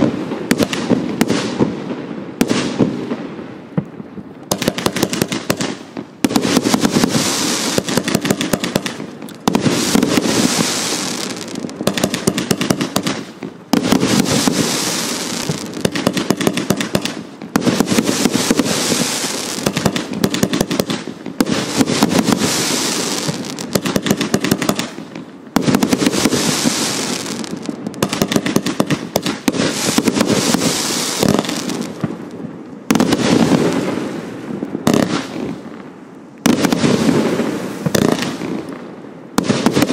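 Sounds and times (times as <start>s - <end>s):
firework volleys bursting: 4.5s - 35.8s, 36.4s - 39.9s.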